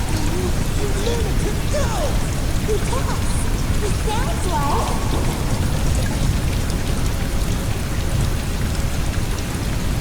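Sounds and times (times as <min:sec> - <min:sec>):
rain: 0:00.0 - 0:10.0.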